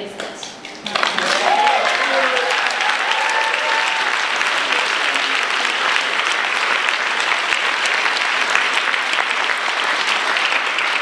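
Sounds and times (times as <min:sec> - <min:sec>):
audience clapping: 0:00.7 - 0:11.0.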